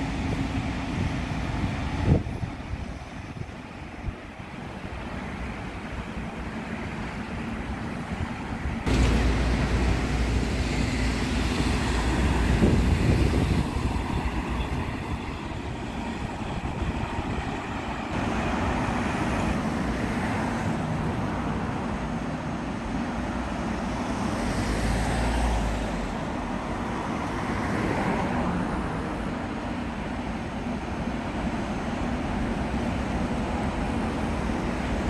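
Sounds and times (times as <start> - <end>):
trains and traffic rumbling: 0.0 - 35.0.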